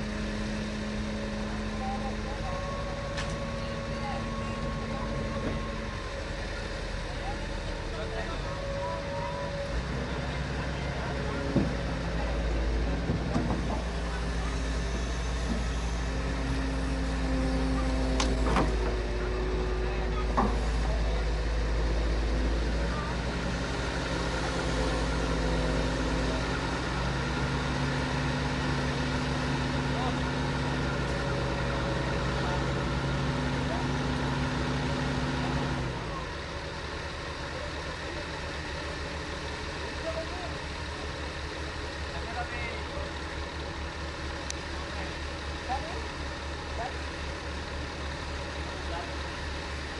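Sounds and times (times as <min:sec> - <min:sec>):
excavator diesel engine rumbling: 0:00.0 - 0:49.9.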